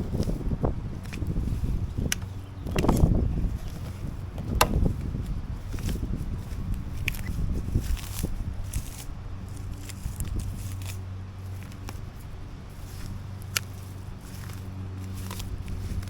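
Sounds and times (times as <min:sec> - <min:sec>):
lawn mower engine running: 0:00.0 - 0:16.0
wind rumble on microphone: 0:00.0 - 0:16.0.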